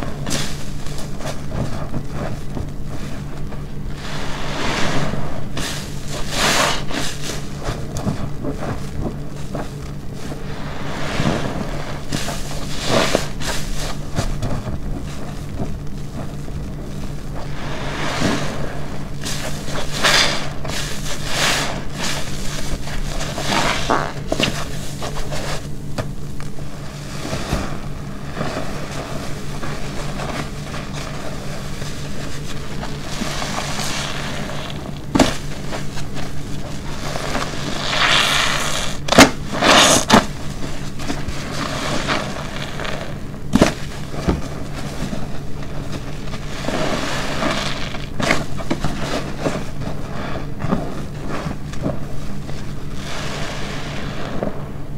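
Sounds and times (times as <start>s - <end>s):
sponge squelching: 0.0s - 54.7s.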